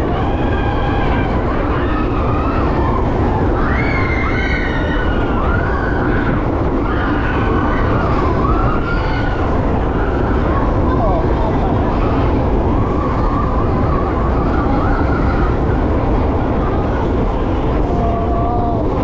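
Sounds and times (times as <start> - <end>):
rush of wind and ride noise: 0.0 - 19.0.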